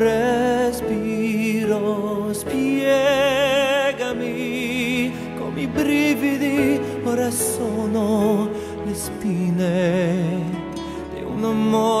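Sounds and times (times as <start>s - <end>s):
person singing with vibrato: 0.0s - 12.0s
steady musical accompaniment: 0.0s - 12.0s.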